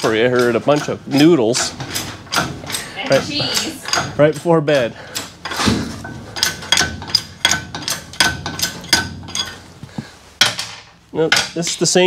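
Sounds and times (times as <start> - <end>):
metal-on-metal knocks: 0.0 - 9.6, 10.4 - 11.8.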